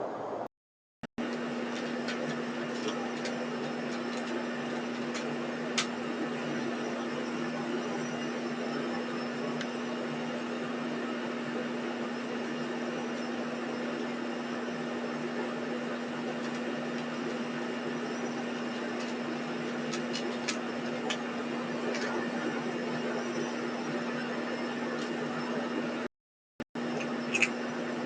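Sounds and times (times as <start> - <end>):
machine hum with hiss: 1.2 - 26.1, 26.8 - 28.0.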